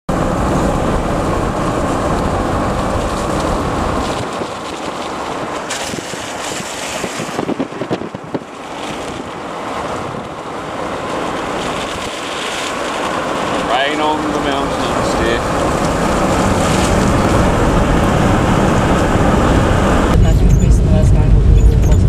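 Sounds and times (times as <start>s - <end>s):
rain rushing: 0.1s - 22.0s
wind buffeting microphone: 0.1s - 22.0s.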